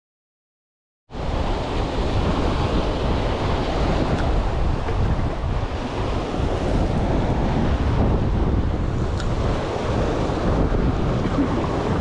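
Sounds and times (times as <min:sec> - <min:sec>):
surf washing: 0:01.1 - 0:12.0
wind rumbling on microphone: 0:01.1 - 0:12.0.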